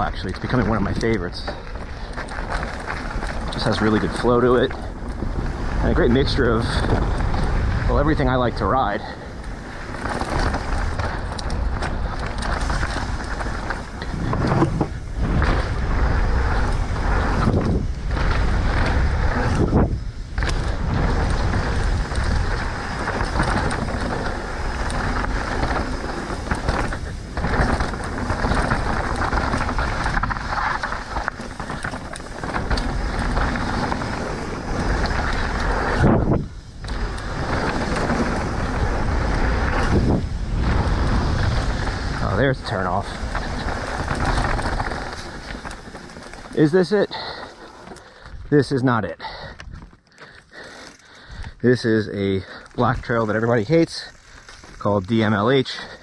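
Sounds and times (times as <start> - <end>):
wind on microphone: 0.0 - 47.6
bike tyres on dirt: 0.0 - 56.0.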